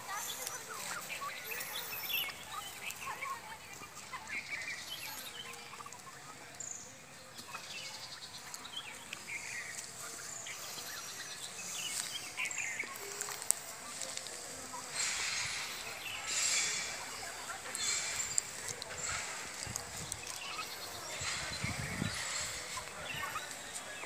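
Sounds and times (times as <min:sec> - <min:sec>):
turkeys calling and peeping: 0:00.0 - 0:24.0.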